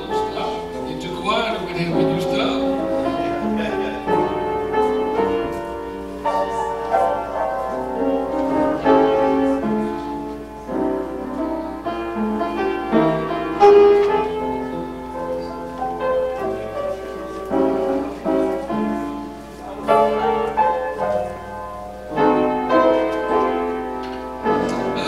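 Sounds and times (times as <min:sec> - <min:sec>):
slow keyboard chords: 0:00.0 - 0:25.0.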